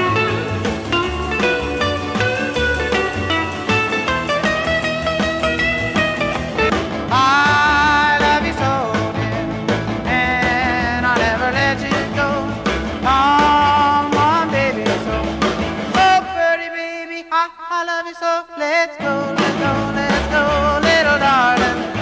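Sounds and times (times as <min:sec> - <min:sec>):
rock and roll music: 0:00.0 - 0:22.0.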